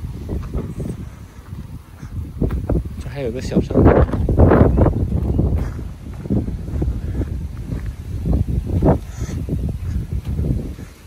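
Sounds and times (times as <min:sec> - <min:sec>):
wind rumbling on microphone: 0:00.0 - 0:11.0
soft footsteps: 0:00.2 - 0:11.0.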